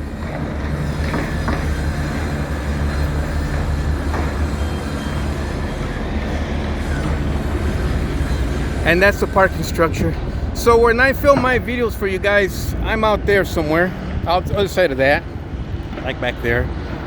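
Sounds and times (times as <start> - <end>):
faint high whine: 0.0 - 15.4
low city rumble: 0.0 - 17.0.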